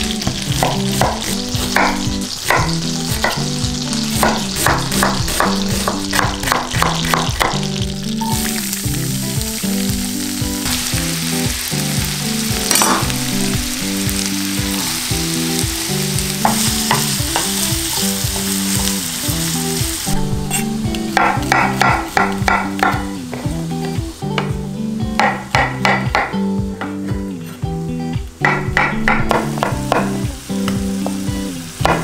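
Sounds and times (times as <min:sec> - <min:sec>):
onion sizzling in butter: 0:00.0 - 0:26.0, 0:27.2 - 0:32.0.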